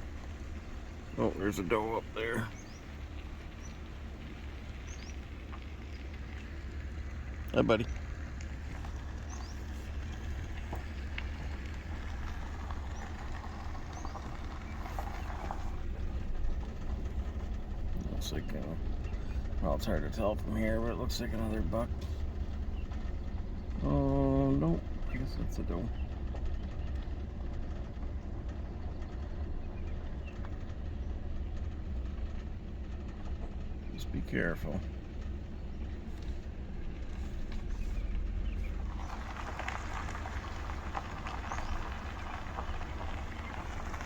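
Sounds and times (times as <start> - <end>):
vehicle engine rumbling: 0.0 - 44.0.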